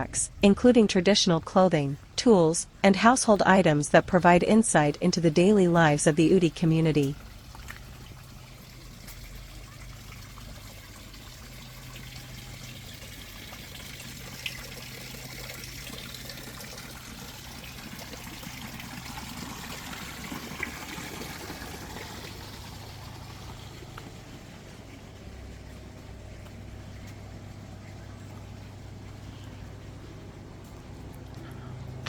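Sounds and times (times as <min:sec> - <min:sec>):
faint low hum: 0:00.0 - 0:19.2, 0:20.8 - 0:32.0
water trickling: 0:03.0 - 0:31.7.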